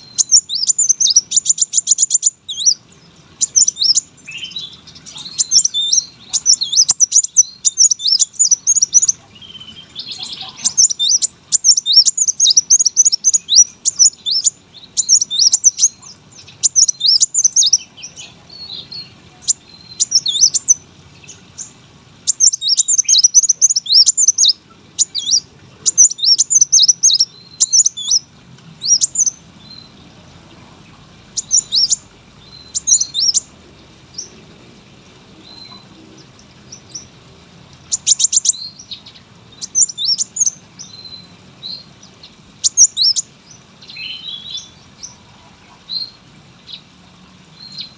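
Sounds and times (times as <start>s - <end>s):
sunbird chirping and trilling: 0.0s - 47.9s.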